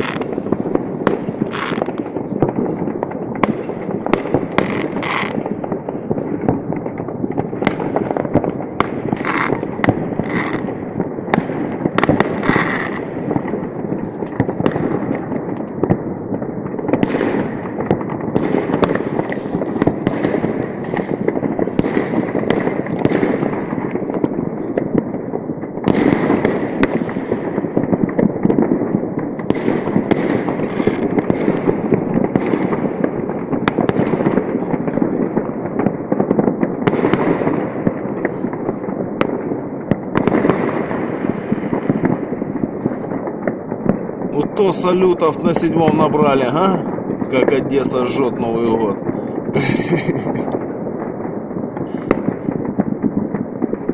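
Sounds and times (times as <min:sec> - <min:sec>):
fireworks crackling and banging: 0:00.0 - 0:53.9.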